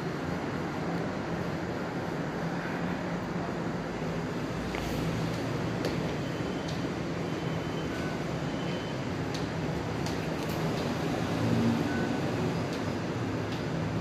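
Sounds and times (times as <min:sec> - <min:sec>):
low hum and rumble of tram: 0:00.0 - 0:14.0.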